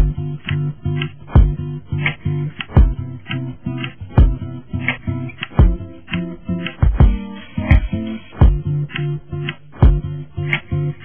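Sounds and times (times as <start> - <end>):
song with guitar and bass: 0.0 - 11.0.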